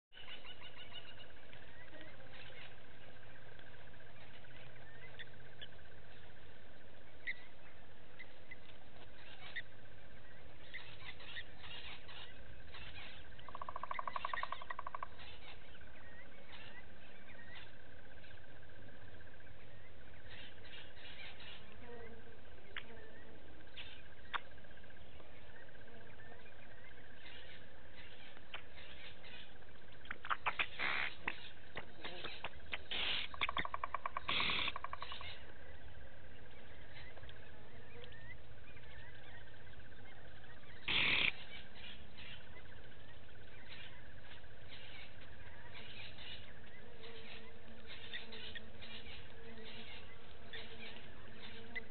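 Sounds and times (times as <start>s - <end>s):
small animals chirping: 0.1s - 51.9s.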